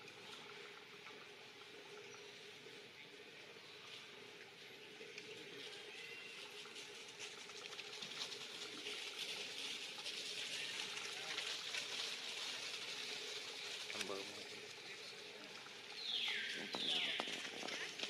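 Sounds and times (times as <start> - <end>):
faint ticks and rustles: 0.0 - 18.0.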